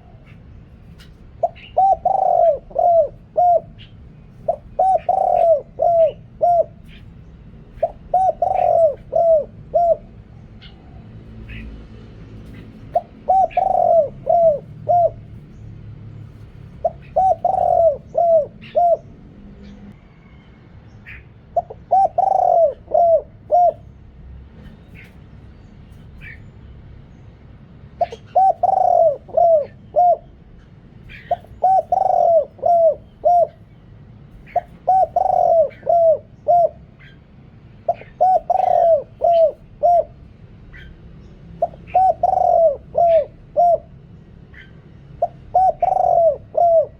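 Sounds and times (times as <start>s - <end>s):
dove cooing: 0.0s - 15.6s, 16.2s - 20.0s, 21.0s - 24.0s, 28.0s - 33.7s, 34.3s - 46.9s.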